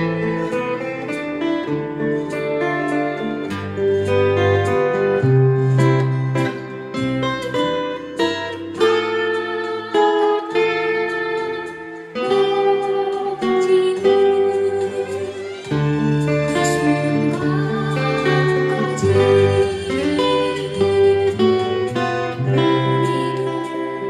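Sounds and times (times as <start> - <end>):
acoustic guitar melody: 0.0 - 24.0.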